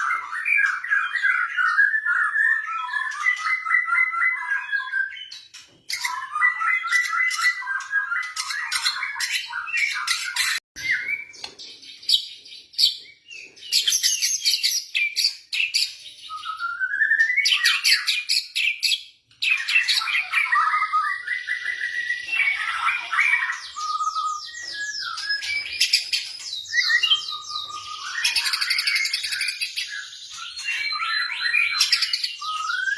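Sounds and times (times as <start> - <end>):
songbird trills and whistles: 0.0 - 32.9.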